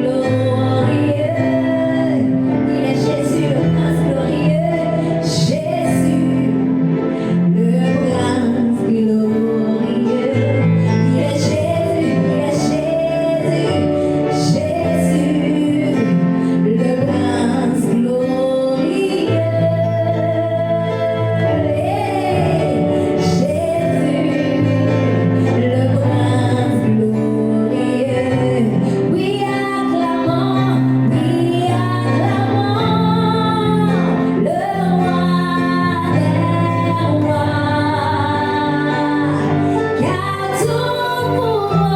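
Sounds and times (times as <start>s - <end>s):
instrumental backing with bass: 0.0s - 41.9s
woman singing: 0.0s - 41.9s.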